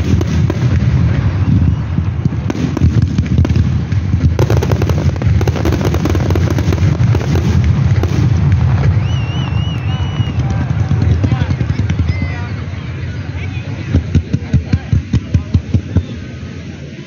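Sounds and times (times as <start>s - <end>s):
fireworks crackling and popping: 0.0s - 17.0s
heavy low rumble: 0.0s - 17.0s.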